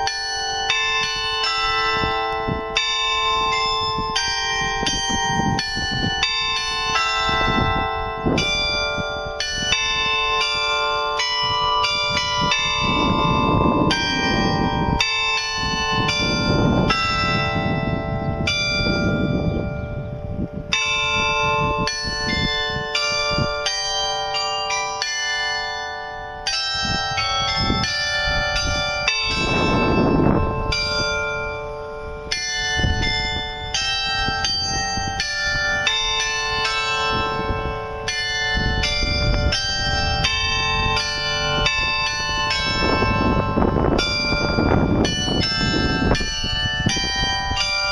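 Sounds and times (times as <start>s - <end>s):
carillon bells playing a tune: 0.0s - 47.9s.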